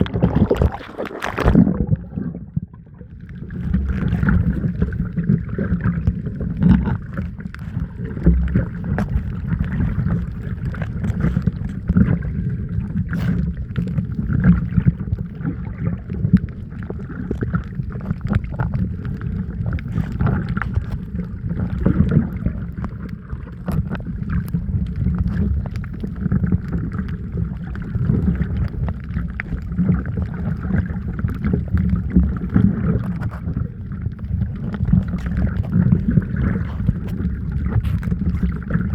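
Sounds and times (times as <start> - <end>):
muffled underwater rumble: 0.0 - 38.9
water sloshing: 0.0 - 38.9
small clicks and pops: 3.2 - 12.2, 13.1 - 38.9.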